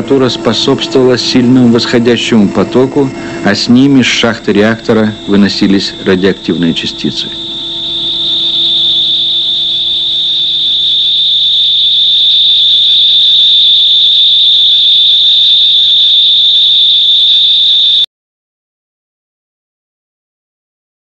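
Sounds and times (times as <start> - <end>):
high-pitched tone: 0.0 - 18.1.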